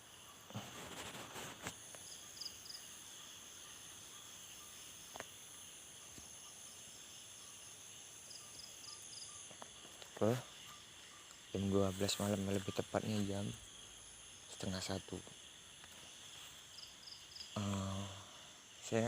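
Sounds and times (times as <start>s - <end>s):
insects trilling: 0.0s - 19.0s
pulsed cricket chirp: 0.0s - 19.0s.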